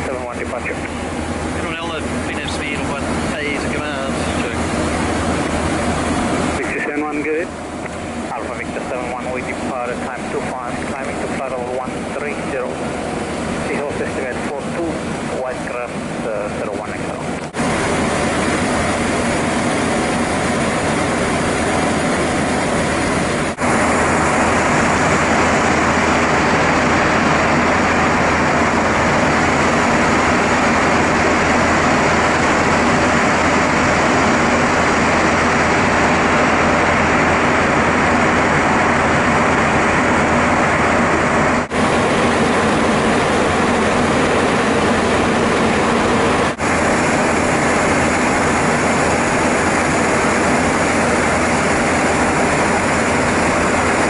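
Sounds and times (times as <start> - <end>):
air rushing over cockpit: 0.0 - 54.0
aircraft engine noise: 0.0 - 54.0
low steady hum: 0.0 - 54.0.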